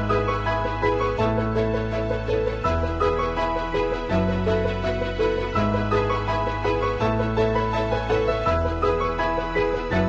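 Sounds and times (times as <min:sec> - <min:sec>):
background music melody: 0:00.0 - 0:10.0.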